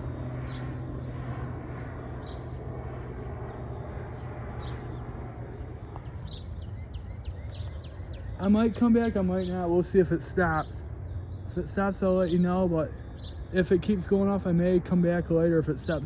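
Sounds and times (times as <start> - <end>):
airplane drone: 0.0 - 16.0
small birds chirping: 0.0 - 16.0.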